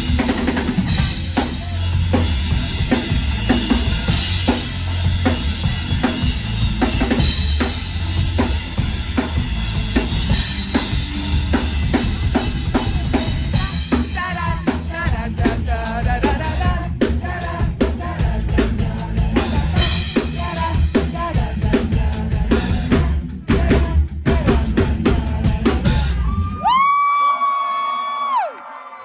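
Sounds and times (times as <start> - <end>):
live band playing: 0.0 - 26.6
drum kit beating: 0.0 - 26.9.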